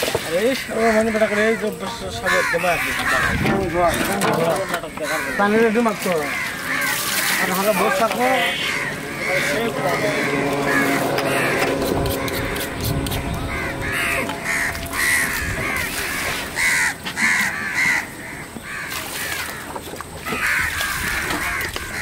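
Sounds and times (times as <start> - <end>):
crows cawing: 0.3 - 22.0.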